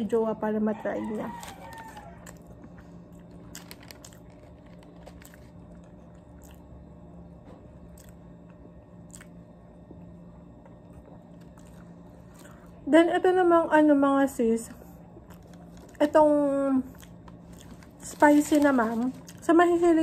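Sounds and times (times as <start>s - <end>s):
steady low hum: 0.0s - 20.0s
chewing crispy food: 0.7s - 12.8s, 14.7s - 20.0s.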